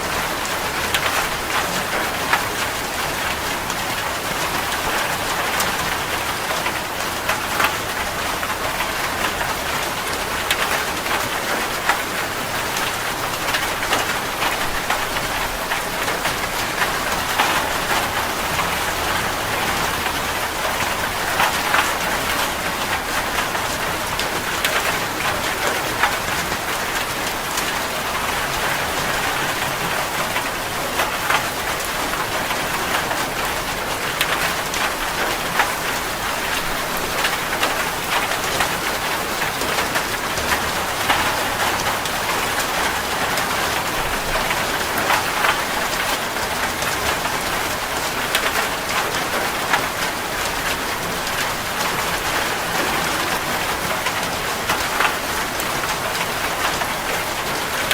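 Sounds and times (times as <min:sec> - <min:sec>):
heavy rain on a metal roof: 0:00.0 - 0:57.9.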